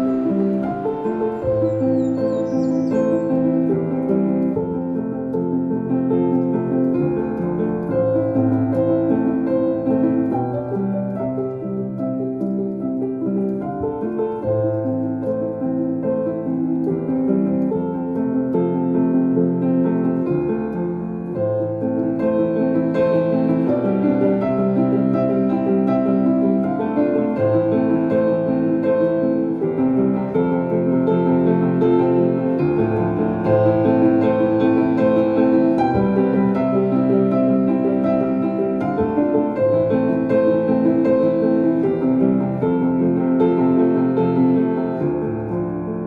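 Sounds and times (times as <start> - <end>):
calm piano music: 0.0 - 46.0.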